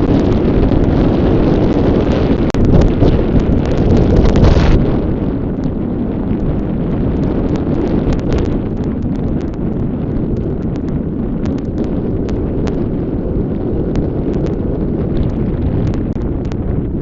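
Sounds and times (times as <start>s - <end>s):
sharp clicks and crackles: 0.0s - 17.0s
wind buffeting microphone: 0.0s - 17.0s.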